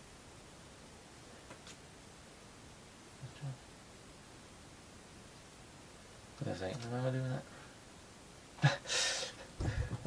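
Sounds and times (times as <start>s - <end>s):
room hiss: 0.0s - 10.0s.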